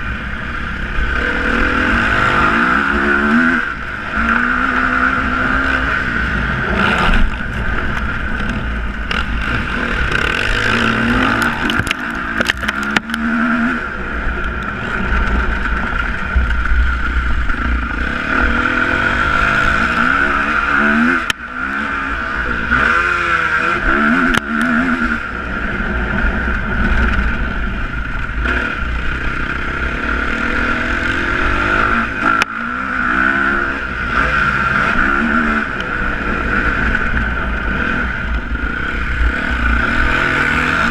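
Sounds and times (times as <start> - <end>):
motocross engines revving: 0.0 - 40.9.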